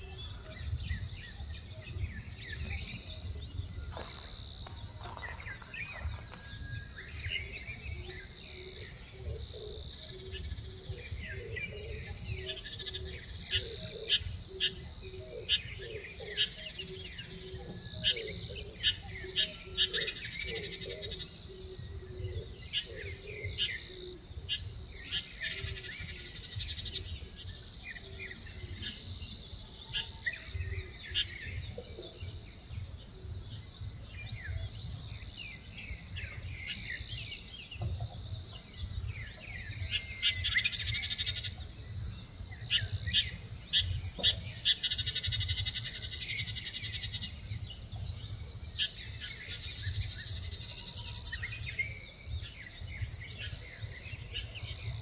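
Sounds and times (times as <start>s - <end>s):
birds chirping and calling: 0.0s - 55.0s
low wind rumble: 0.0s - 55.0s.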